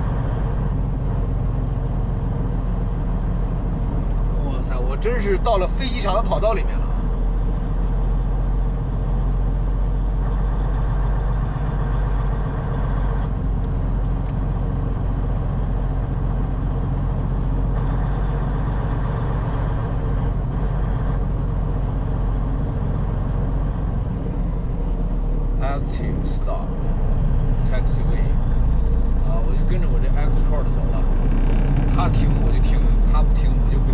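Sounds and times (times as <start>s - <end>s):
truck diesel engine running: 0.0s - 33.9s.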